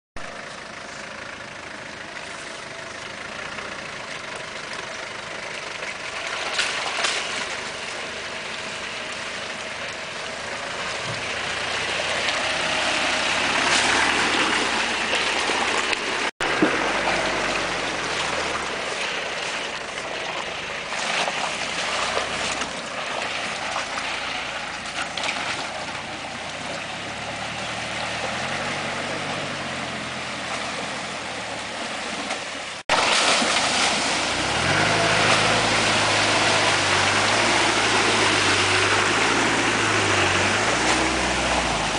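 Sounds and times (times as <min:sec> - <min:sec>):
car engine running: 0:00.2 - 0:41.9
water splashing: 0:05.4 - 0:41.9.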